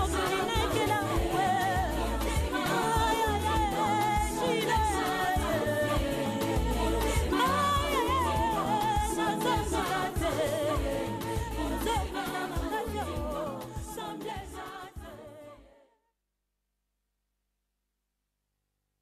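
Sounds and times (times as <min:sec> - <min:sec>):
person singing: 0:00.0 - 0:15.3.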